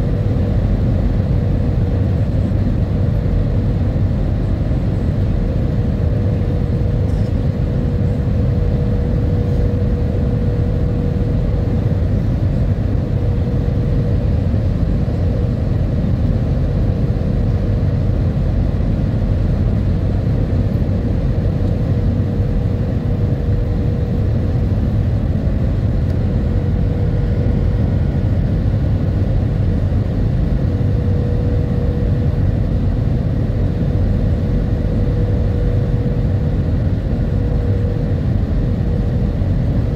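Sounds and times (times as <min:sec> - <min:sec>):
jet engine cabin rumble: 0:00.0 - 0:39.9
thin steady hum: 0:00.0 - 0:39.9.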